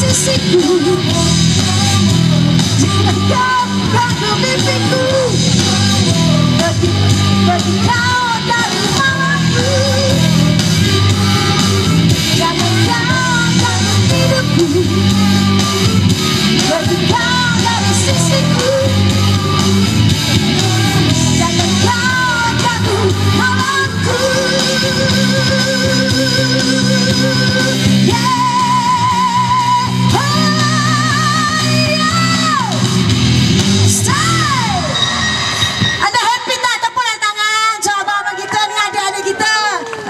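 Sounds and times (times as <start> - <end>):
woman singing into microphone: 0.0 - 33.0, 33.9 - 35.0
backing track through pa: 0.0 - 40.0.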